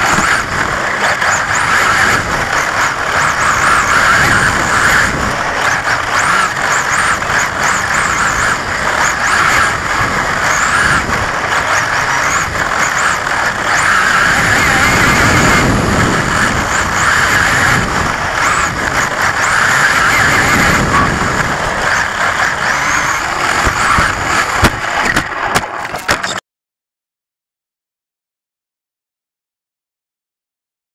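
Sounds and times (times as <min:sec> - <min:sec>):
electric motor whine: 0:00.0 - 0:26.4
tyre noise: 0:00.0 - 0:26.4.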